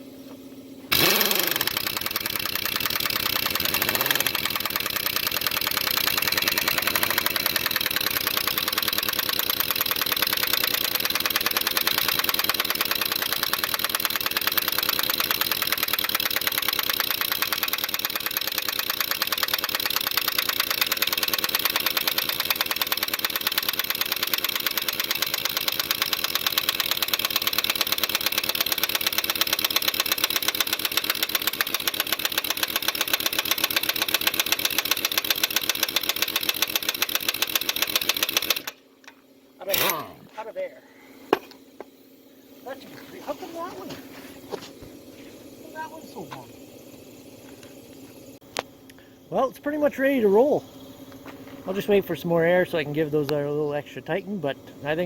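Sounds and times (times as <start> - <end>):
air compressor chugging: 0.0 - 55.0.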